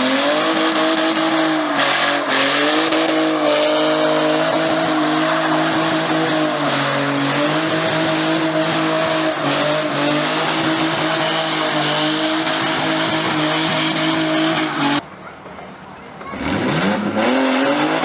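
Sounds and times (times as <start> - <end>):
car engine revving high: 0.0 - 15.0, 16.3 - 18.0
tyres screeching: 0.0 - 18.0.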